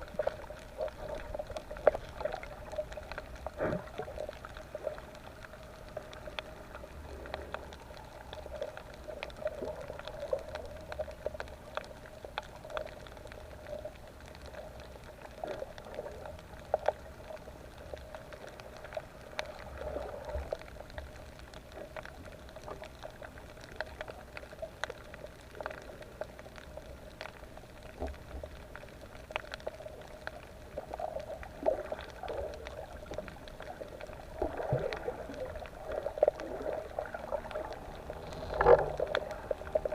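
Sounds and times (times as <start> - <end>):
sharp clicks and crackles: 0.0 - 39.9
water bubbling underwater: 0.0 - 39.9.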